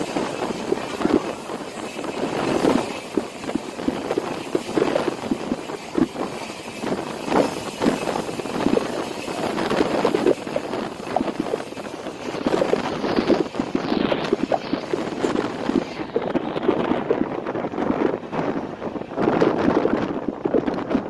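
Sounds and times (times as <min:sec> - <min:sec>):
rush of wind: 0:00.0 - 0:21.0
train wheels clattering on rails: 0:00.0 - 0:21.0.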